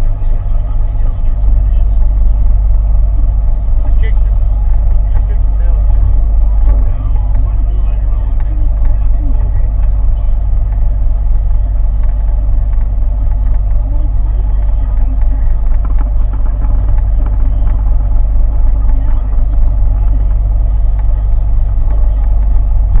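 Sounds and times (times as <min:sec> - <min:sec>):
engine running with deep rumble: 0:00.0 - 0:23.0.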